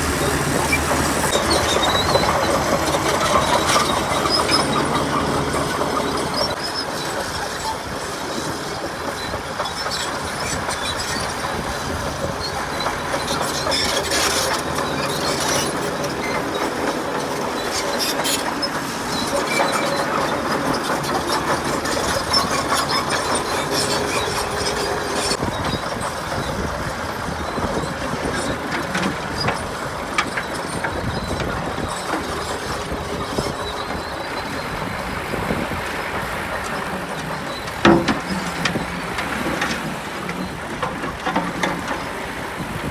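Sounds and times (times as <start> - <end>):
crawler tracks clattering and squealing: 0.0 - 42.9
diesel engine under load: 0.0 - 42.9.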